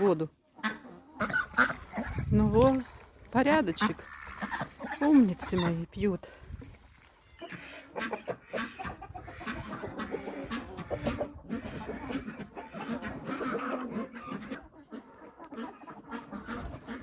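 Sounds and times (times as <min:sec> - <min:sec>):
hens clucking: 0:00.0 - 0:06.2, 0:07.1 - 0:17.0.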